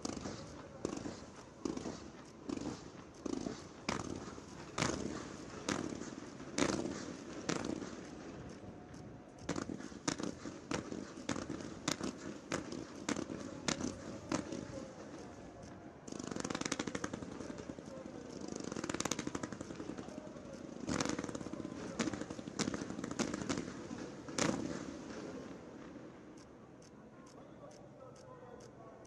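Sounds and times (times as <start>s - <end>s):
fireworks bangs and pops: 0.0s - 26.5s.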